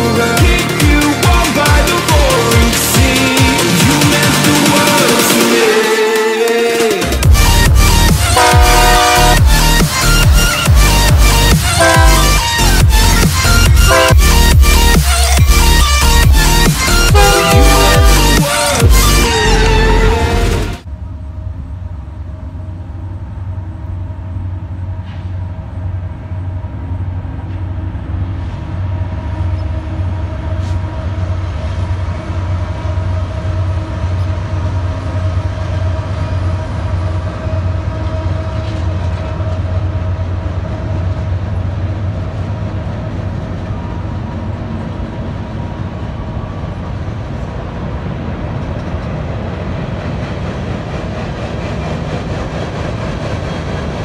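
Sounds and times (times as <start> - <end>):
diesel locomotive engine drone: 0.0 - 54.0
rumble of freight cars: 0.0 - 54.0.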